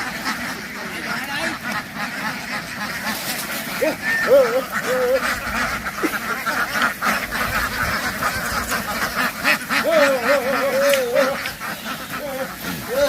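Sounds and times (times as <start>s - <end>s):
flock of ducks quacking: 0.0s - 13.0s.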